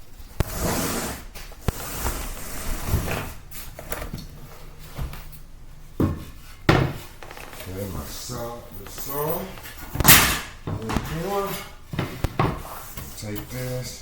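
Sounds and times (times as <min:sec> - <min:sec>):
scraping and rustling: 0:00.2 - 0:05.4, 0:06.1 - 0:14.0.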